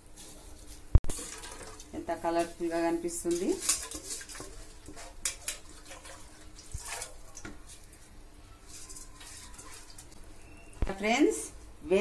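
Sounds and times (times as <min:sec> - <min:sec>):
water boiling in pot: 0:01.0 - 0:10.8.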